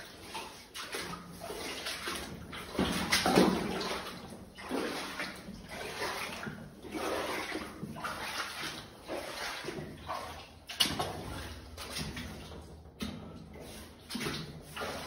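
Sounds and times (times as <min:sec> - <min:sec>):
footsteps squelching through mud: 0:00.0 - 0:12.8.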